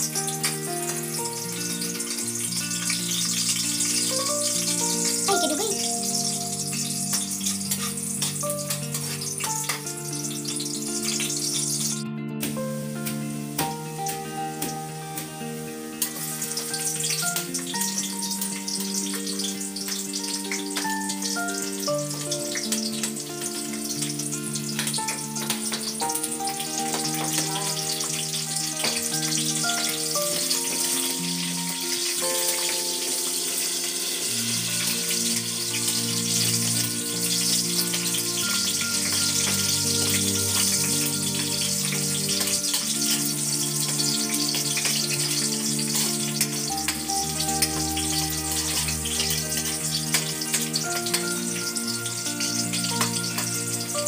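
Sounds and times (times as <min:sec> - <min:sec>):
background music sustained notes: 0:00.0 - 0:54.0
garlic sizzling in hot oil: 0:00.0 - 0:54.0.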